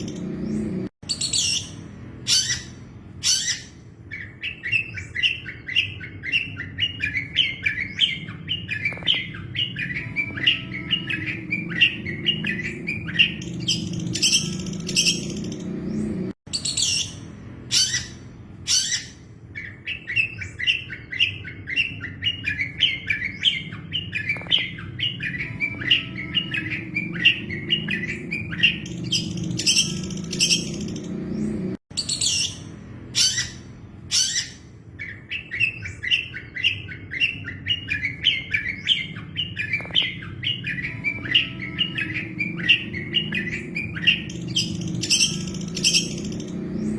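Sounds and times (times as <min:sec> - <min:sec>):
harsh bird notes: 0:00.0 - 0:46.9
shrike chirping song: 0:00.0 - 0:46.9.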